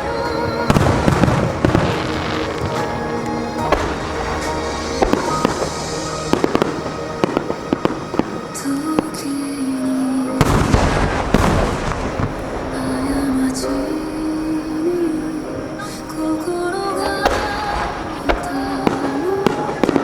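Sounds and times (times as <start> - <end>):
fireworks bangs and crackles: 0.0 - 15.2, 16.1 - 20.0
music: 0.0 - 20.0.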